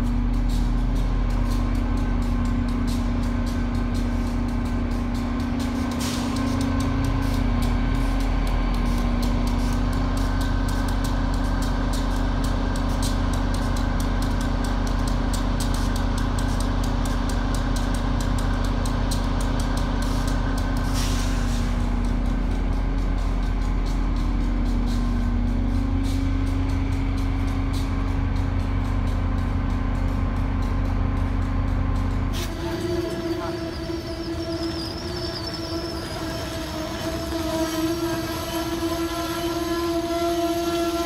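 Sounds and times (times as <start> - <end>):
low machinery hum: 0.0 - 41.0.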